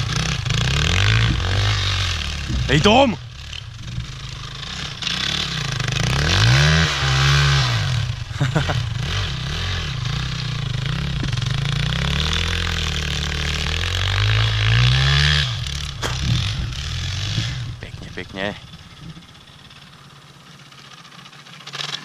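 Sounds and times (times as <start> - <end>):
dirt bike engine revving: 0.0 - 20.0, 20.9 - 22.0.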